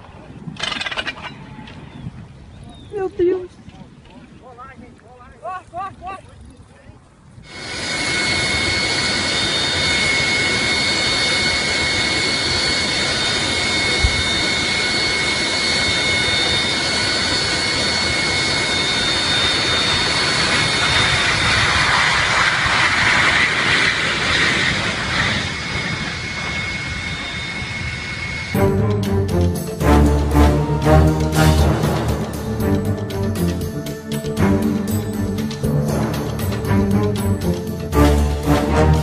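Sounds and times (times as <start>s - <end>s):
high constant whine: 7.5s - 39.0s
jet engine running: 7.5s - 39.0s.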